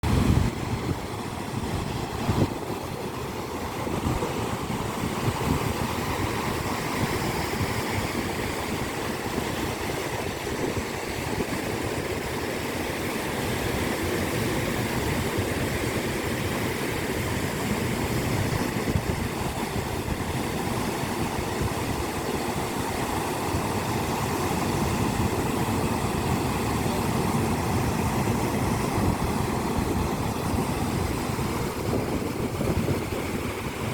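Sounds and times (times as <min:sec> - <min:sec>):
sea waves washing onto shore: 0:00.0 - 0:33.9.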